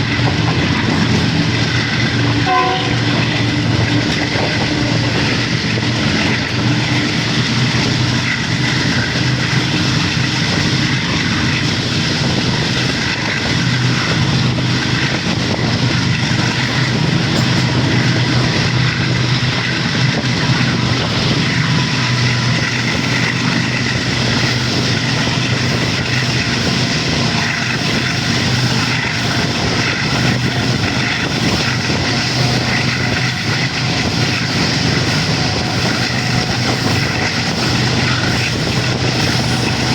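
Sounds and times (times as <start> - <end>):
locomotive engine droning: 0.0 - 39.9.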